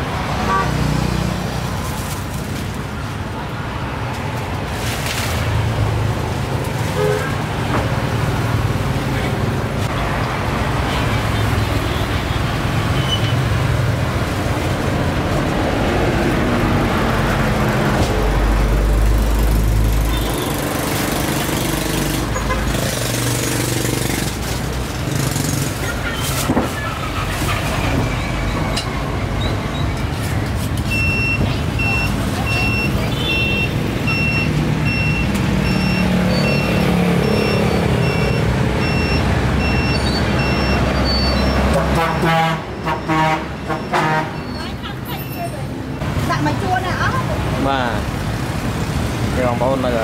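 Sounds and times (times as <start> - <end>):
vehicles passing: 0.0 - 50.0.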